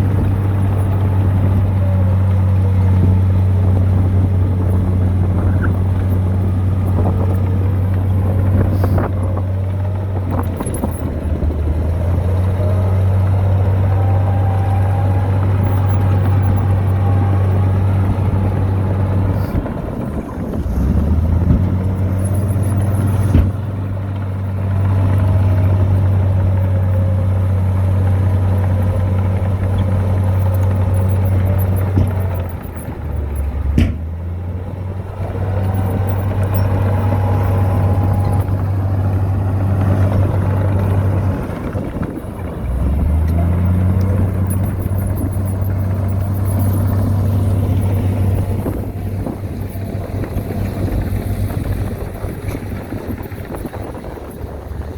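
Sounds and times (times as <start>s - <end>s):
heavy diesel engine under load: 0.0s - 54.9s.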